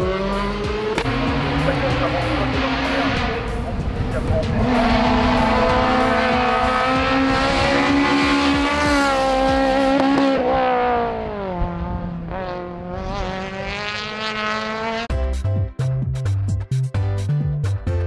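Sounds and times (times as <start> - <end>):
rally car engine accelerating: 0.0 - 15.1.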